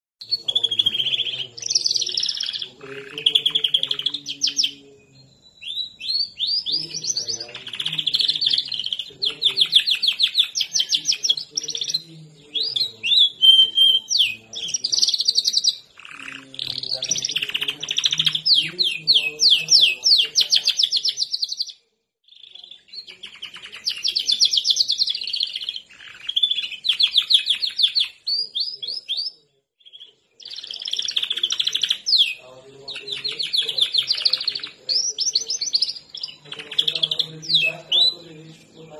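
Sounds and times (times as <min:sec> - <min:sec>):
canary singing trills: 0:00.2 - 0:38.9.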